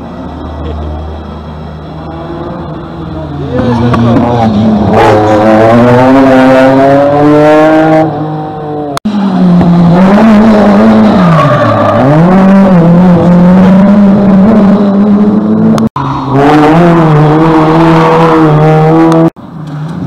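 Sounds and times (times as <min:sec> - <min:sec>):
rally car engines revving: 0:00.0 - 0:20.0.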